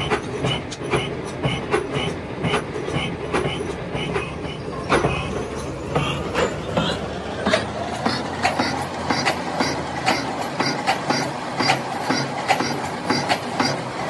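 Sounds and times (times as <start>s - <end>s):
regular metallic clack: 0.0s - 13.8s
steady machine noise: 0.0s - 14.0s.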